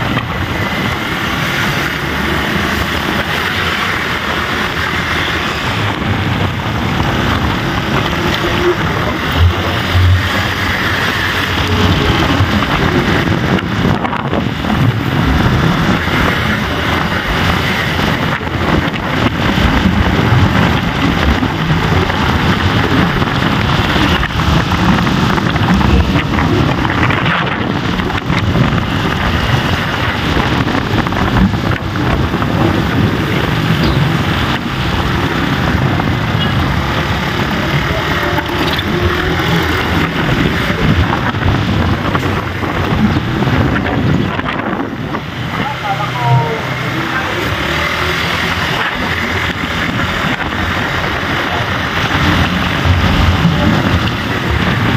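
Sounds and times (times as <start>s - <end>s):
moving vehicle noise: 0.0s - 54.9s
wind on microphone: 0.0s - 54.9s.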